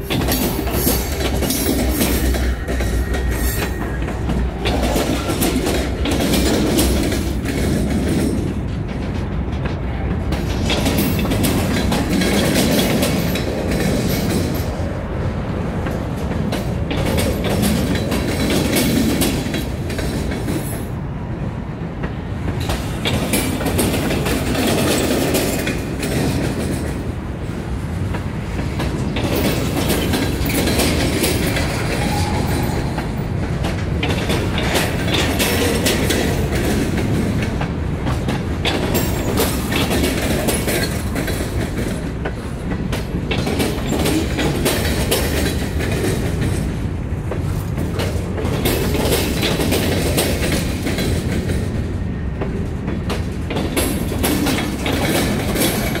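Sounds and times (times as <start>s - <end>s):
steel wheels rumbling on rail: 0.0s - 56.0s
wheels clickety-clack over rail joints: 0.0s - 56.0s.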